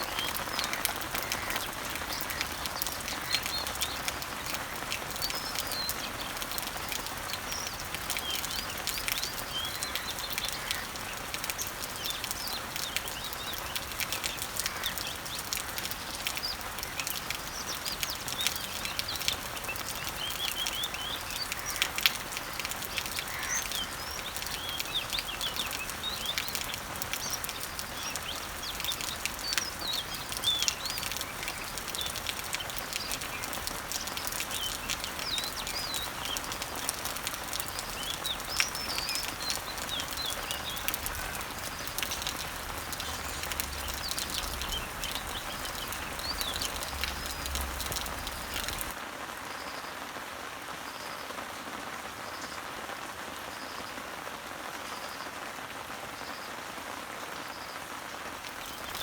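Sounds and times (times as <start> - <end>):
birds chirping: 0.0 - 49.0, 58.4 - 59.0
rain on leaves: 0.0 - 59.0.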